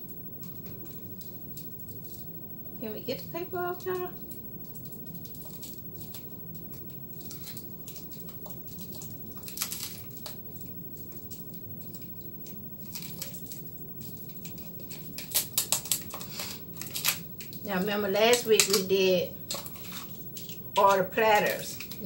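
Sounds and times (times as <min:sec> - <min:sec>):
steady low hum: 0:00.0 - 0:22.0
paper crinkles: 0:00.4 - 0:02.4, 0:03.1 - 0:22.0.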